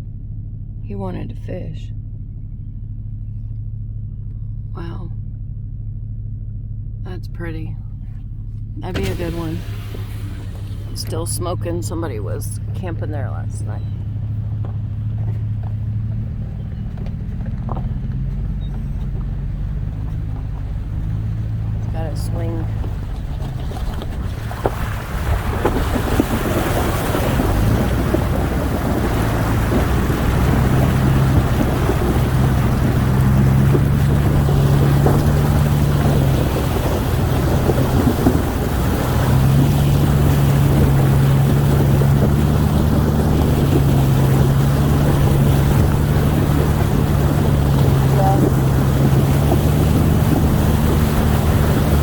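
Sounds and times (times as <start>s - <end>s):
tyre and road noise: 0.0s - 52.0s
vehicle engine running: 0.0s - 52.0s.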